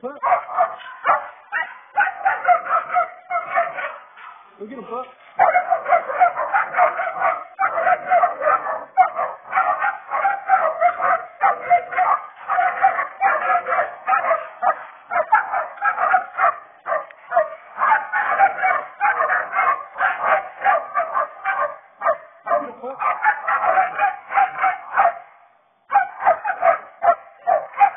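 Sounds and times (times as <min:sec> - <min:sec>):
puppies barking and yapping: 0:00.1 - 0:04.5, 0:05.2 - 0:27.9.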